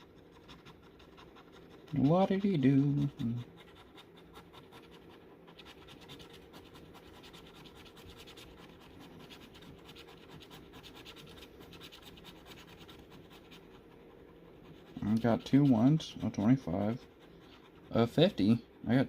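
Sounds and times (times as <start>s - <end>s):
scratching a scratch-off ticket: 0.0s - 19.0s.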